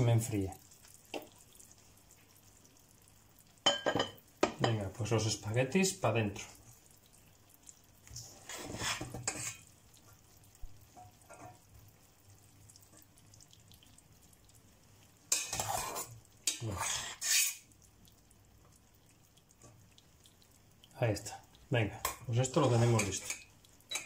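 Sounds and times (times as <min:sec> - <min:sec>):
spaghetti sizzling in sauce: 0:00.0 - 0:24.0.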